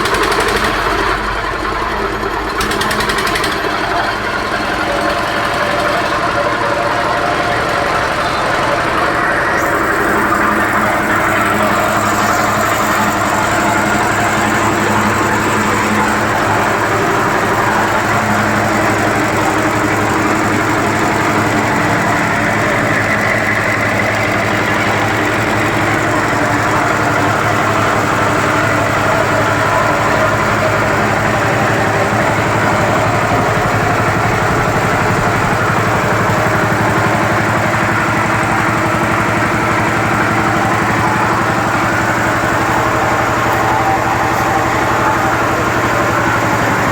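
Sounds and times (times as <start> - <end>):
diesel engine running: 0.0 - 46.9
air compressor pump: 2.6 - 46.9.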